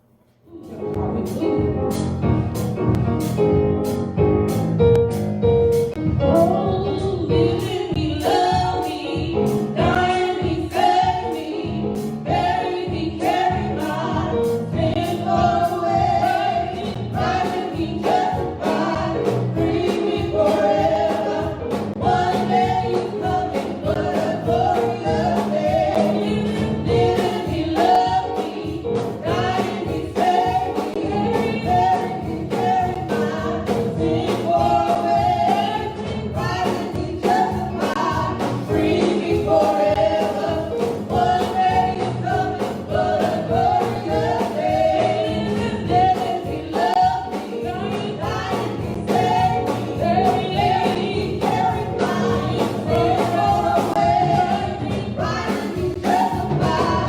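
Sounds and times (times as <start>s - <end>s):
gospel choir singing: 0.5s - 3.0s, 6.4s - 57.0s
band with steady beat: 0.9s - 6.8s, 7.4s - 57.0s.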